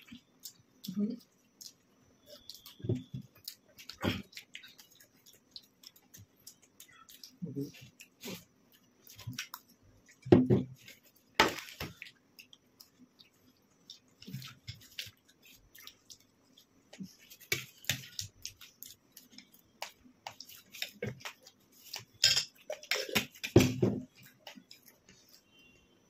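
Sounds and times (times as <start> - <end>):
chewing: 0.0 - 25.6.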